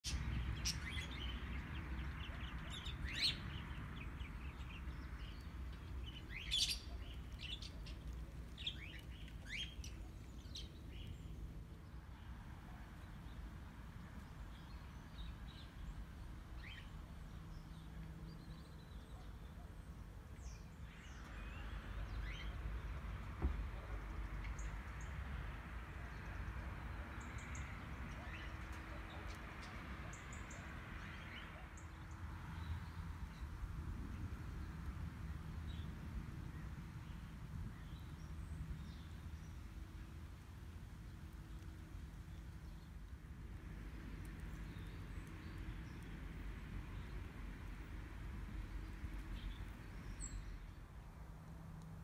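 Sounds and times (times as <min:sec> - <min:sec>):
small birds chirping: 0:00.0 - 0:51.1
low outdoor rumble: 0:00.0 - 0:52.0.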